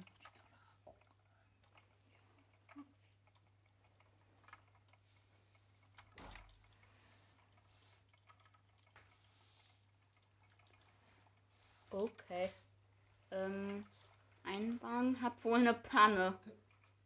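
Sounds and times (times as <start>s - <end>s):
low steady hum: 0.0s - 17.0s
small clicks: 0.0s - 17.0s.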